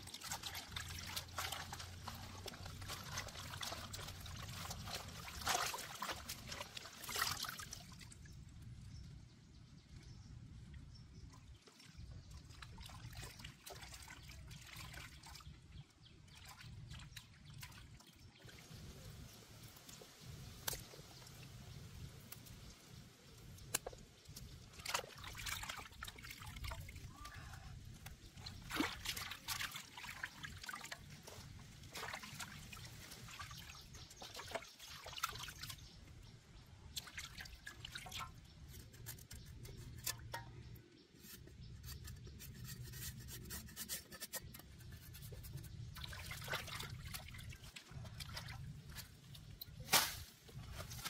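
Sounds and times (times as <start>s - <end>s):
water trickling and dripping: 0.0s - 9.2s, 10.6s - 49.9s.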